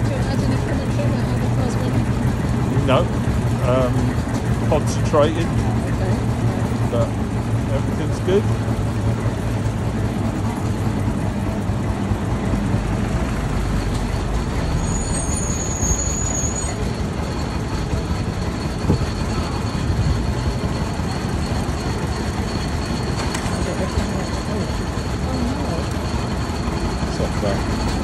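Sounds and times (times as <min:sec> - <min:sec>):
road traffic noise: 0:00.0 - 0:28.0
single-cylinder car engine rumble: 0:00.0 - 0:28.0.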